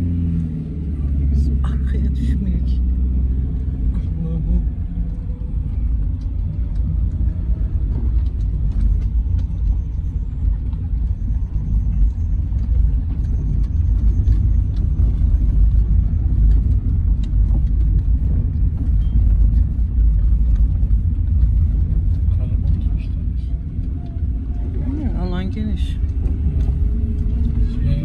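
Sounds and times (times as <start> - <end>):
car driving on rough dirt road: 0.0 - 28.0
rattles and knocks from bumps: 4.6 - 28.0.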